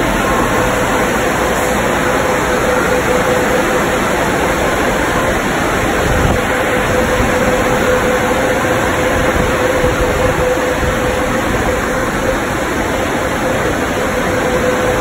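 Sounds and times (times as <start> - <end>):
car wash water spray: 0.0 - 15.0
mid-pitched machine hum: 0.0 - 15.0.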